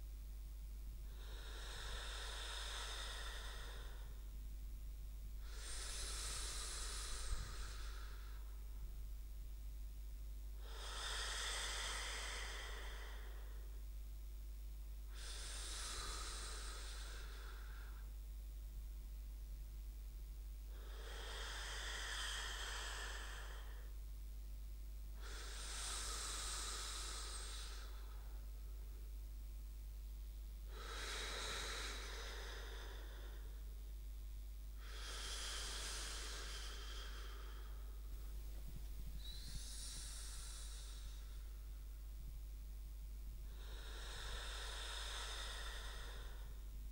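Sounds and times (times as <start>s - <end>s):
person breathing slowly: 1.0s - 4.5s, 5.4s - 9.1s, 10.5s - 14.0s, 15.0s - 18.6s, 20.6s - 24.4s, 25.1s - 29.2s, 30.4s - 42.6s, 43.3s - 46.9s.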